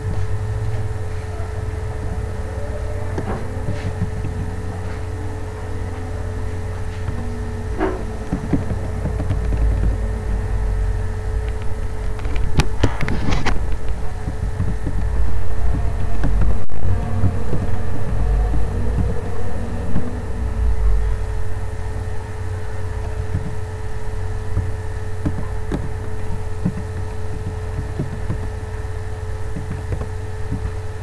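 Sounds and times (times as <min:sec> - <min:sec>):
constant hum: 0:00.0 - 0:31.0
low rumble: 0:00.0 - 0:31.0.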